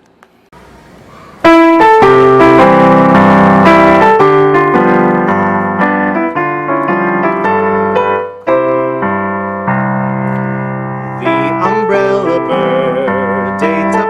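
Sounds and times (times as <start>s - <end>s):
piano melody over chords: 1.4s - 14.0s.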